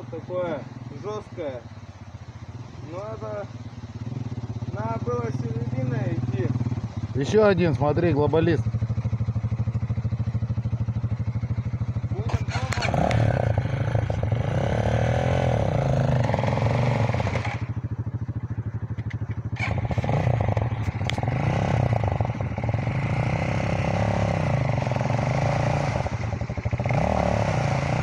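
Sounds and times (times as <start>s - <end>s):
dirt bike engine revving: 2.5s - 17.8s, 19.5s - 28.0s.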